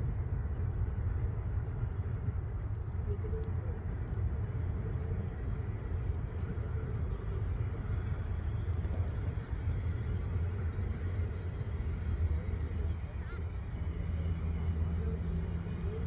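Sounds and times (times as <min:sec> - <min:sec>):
distant airplane rolling on runway: 0:00.0 - 0:16.0.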